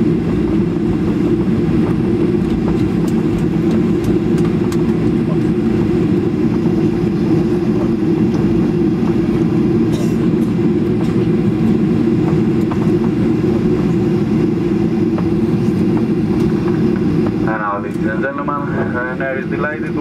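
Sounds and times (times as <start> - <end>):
aircraft engine and wheel rumble: 0.0 - 20.0.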